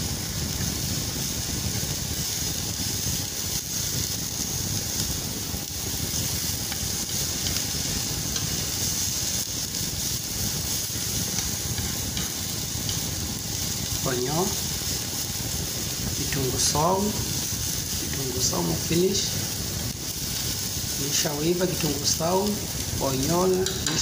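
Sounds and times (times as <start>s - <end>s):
onions sizzling in pan: 0.0s - 24.0s.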